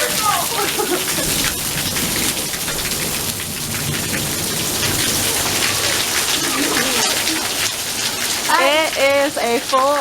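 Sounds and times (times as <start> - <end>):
heavy rain on pavement and roofs: 0.0 - 10.0.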